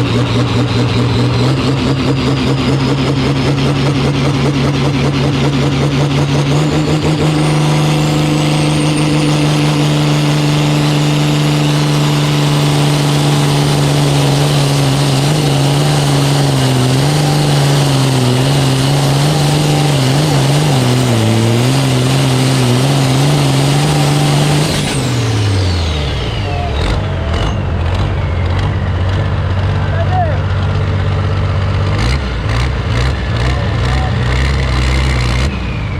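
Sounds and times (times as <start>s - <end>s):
engine revving under load: 0.0s - 35.9s.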